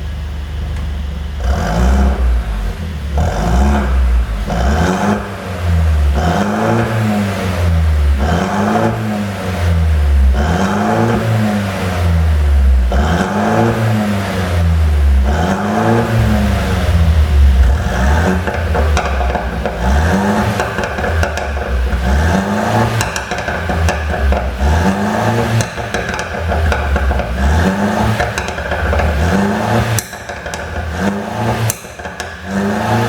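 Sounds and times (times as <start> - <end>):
exhaust popping and crackling: 0.6 - 33.0
car engine revving: 1.2 - 33.0.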